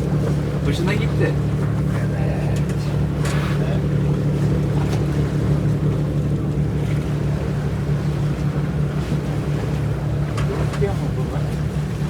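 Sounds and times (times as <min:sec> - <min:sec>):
boat engine humming: 0:00.0 - 0:12.0
water noise: 0:00.0 - 0:12.0.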